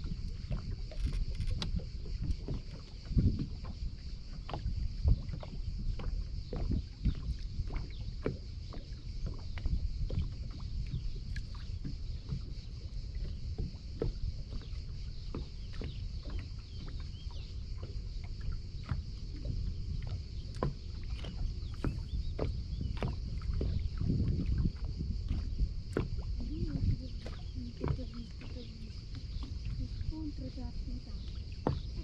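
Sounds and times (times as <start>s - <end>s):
waves lapping against a boat hull: 0.0s - 32.0s
wind buffeting microphone: 0.0s - 32.0s.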